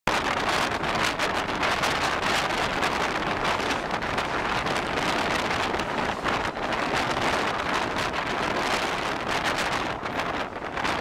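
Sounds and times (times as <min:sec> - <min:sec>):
train wheels rumbling on rails: 0:00.1 - 0:11.0
wind buffeting microphone: 0:00.1 - 0:11.0.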